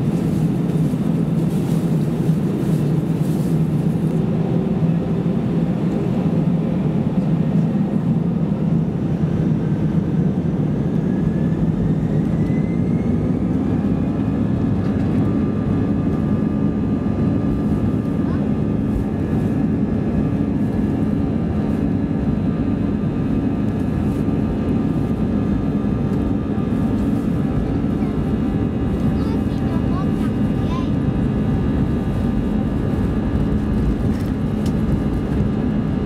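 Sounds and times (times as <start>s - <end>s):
aircraft cabin drone: 0.0s - 36.0s.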